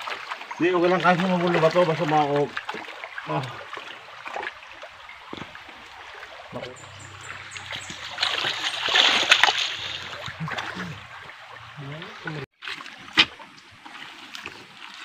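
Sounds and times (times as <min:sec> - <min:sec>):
creek water splashing: 0:00.0 - 0:15.0.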